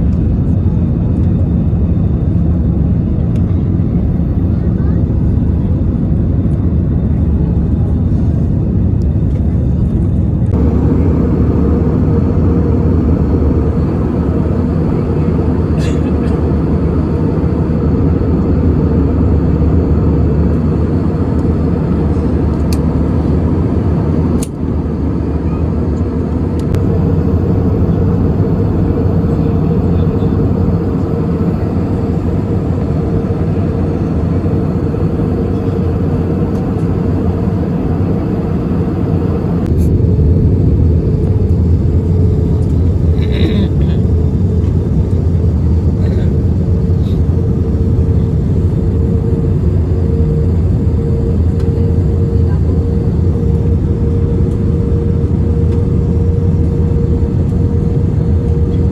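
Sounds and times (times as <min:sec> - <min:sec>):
jet engine rumble: 0:00.0 - 0:58.9
steady cabin hum: 0:06.5 - 0:58.9.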